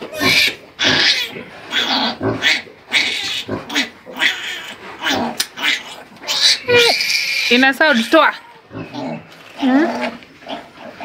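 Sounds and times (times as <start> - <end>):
piglet squealing: 0.0 - 10.6.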